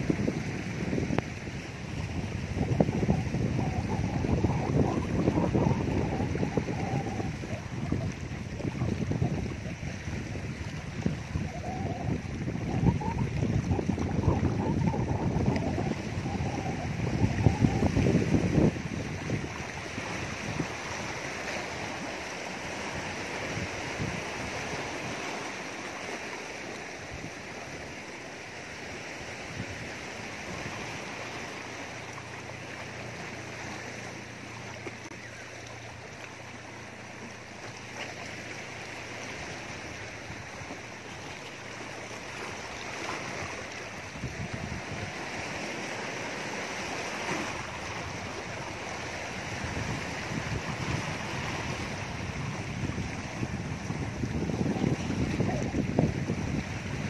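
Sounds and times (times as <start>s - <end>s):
waves splashing against rocks: 0.0s - 57.0s.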